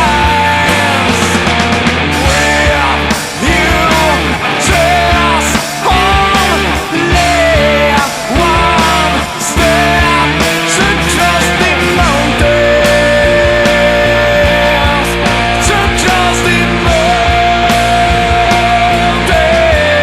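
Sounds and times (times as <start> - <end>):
bass: 0.0 - 20.0
drum beat: 0.0 - 20.0
sliding melodic lead line: 0.0 - 20.0.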